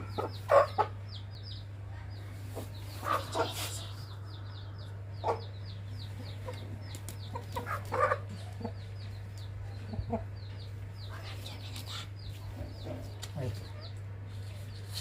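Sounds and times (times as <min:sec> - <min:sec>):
chickens clucking: 0:00.0 - 0:15.0
constant low hum: 0:00.0 - 0:15.0.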